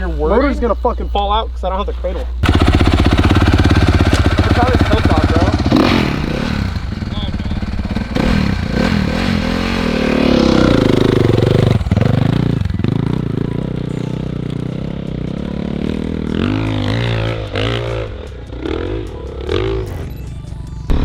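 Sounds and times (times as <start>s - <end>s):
dirt bike engine revving: 2.4s - 20.1s.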